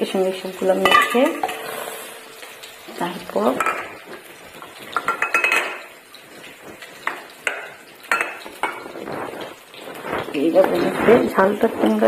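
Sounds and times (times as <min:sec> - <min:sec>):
steel bowl clattering: 0:00.0 - 0:12.0.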